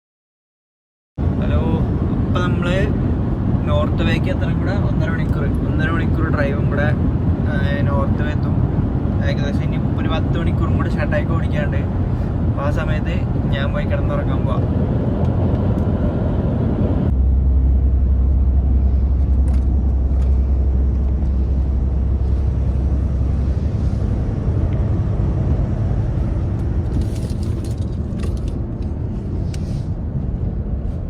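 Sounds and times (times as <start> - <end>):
deep drone: 1.2 - 31.0
road noise: 1.2 - 31.0
truck diesel engine rumble: 1.2 - 31.0.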